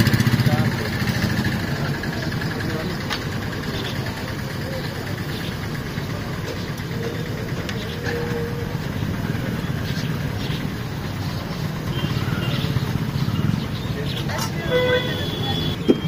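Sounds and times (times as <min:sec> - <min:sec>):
motorcycle engine idling: 0:00.0 - 0:16.0
street traffic rumble: 0:00.0 - 0:16.0.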